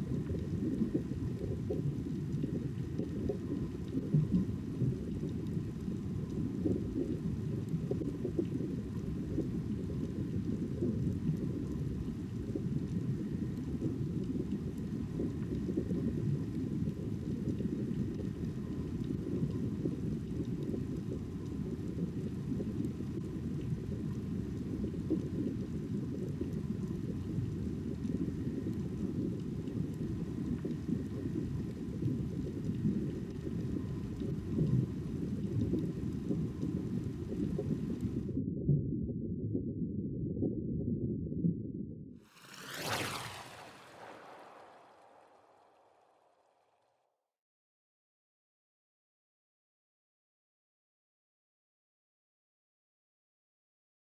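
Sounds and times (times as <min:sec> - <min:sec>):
muffled underwater rumble: 0:00.0 - 0:46.9.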